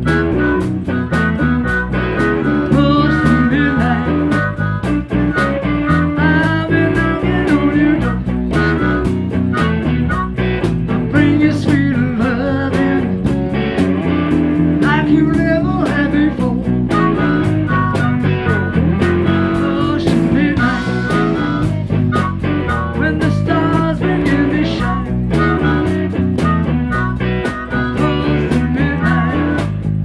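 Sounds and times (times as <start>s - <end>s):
amplified harmonica solo: 0.0s - 11.9s, 12.8s - 30.0s
bass: 0.0s - 30.0s
drums: 0.0s - 30.0s
electric guitar: 0.0s - 30.0s.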